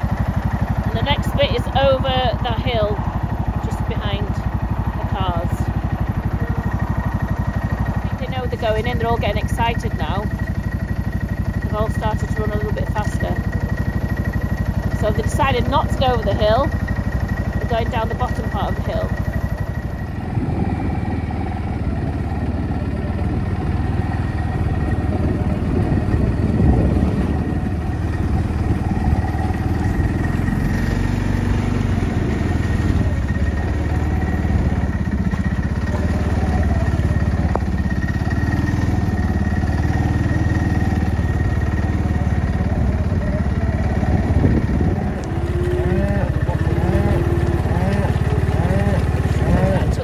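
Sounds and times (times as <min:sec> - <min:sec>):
farm vehicle engine running: 0:00.0 - 0:50.0.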